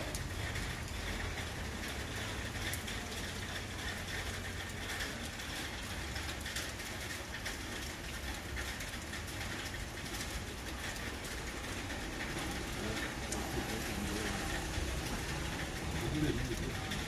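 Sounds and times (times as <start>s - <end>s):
street rumble and hiss: 0.0s - 17.0s.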